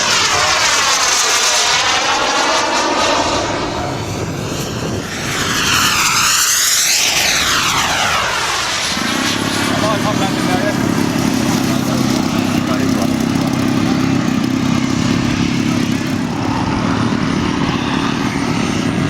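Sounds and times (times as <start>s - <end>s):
model aircraft engine: 0.0s - 19.0s.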